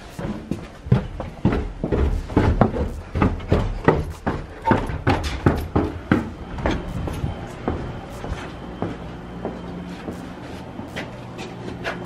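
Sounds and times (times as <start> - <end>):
footsteps going down stairs: 0.0 - 12.0.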